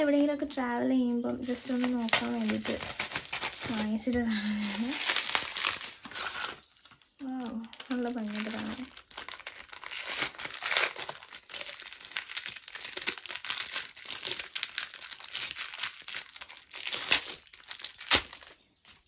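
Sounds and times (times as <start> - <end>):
plastic wrapping crinkling: 1.3 - 19.0.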